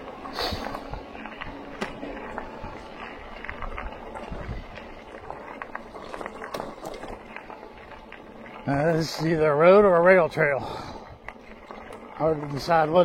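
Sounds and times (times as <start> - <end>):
bike clicks and rattles: 0.0 - 13.0
bike tyres rumbling on dirt: 0.0 - 13.0.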